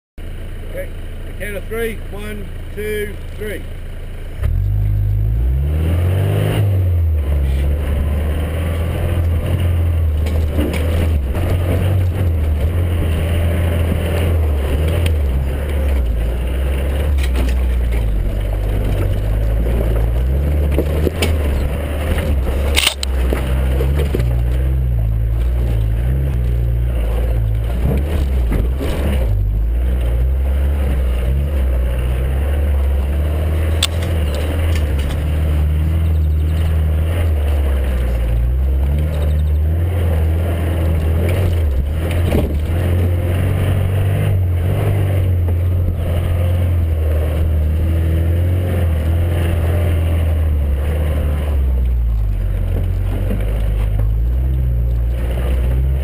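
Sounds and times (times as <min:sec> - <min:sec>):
engine revving under load: 0:00.7 - 0:56.0.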